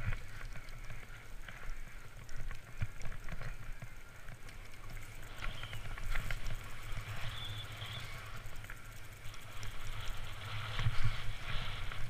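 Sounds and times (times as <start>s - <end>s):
bike clicks and knocks: 0.0s - 12.0s
tyres rolling on dirt: 0.0s - 12.0s
wind rumble on microphone: 0.0s - 12.0s.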